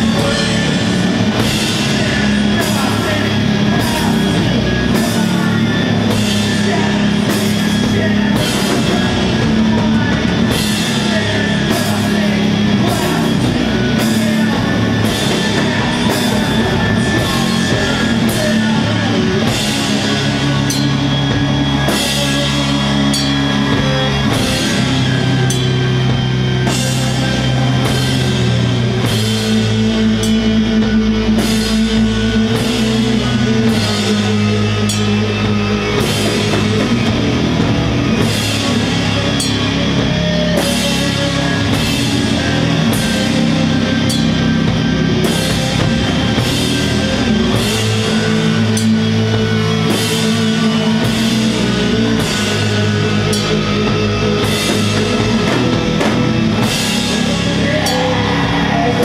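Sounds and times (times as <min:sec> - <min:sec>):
doom metal band playing: 0:00.0 - 0:59.0.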